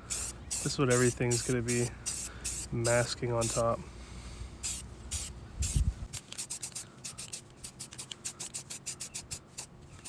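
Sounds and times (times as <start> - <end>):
spray paint can hissing: 0.1 - 3.6, 4.6 - 9.7.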